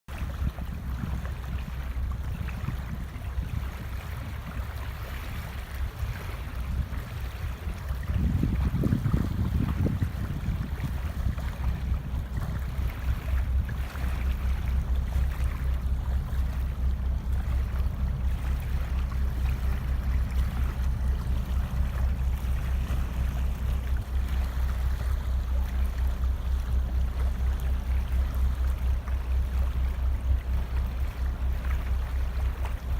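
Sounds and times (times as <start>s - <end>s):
water rushing and splashing: 0.1s - 32.9s
ship engines droning: 0.2s - 32.9s.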